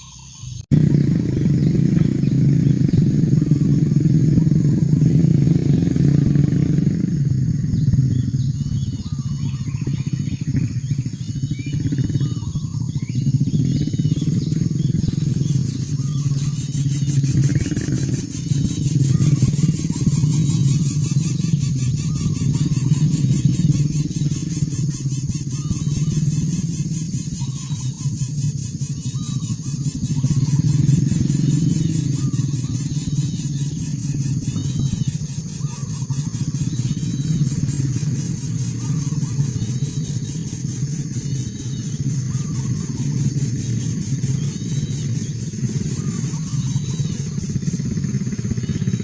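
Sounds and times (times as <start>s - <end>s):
high chirps: 0.0s - 49.0s
low engine drone: 0.0s - 49.0s.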